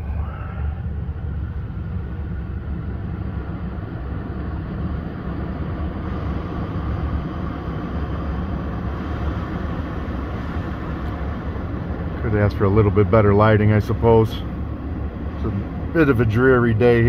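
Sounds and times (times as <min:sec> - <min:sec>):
climate-control fan rushing: 0:00.0 - 0:17.0
engine idling low rumble: 0:00.0 - 0:17.0.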